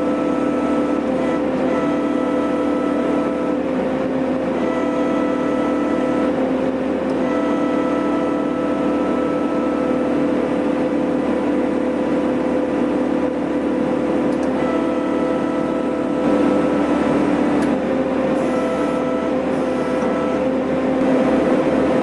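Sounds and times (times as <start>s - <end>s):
excavator engine and hydraulics: 0.0s - 22.0s
hydraulic whine: 0.0s - 22.0s.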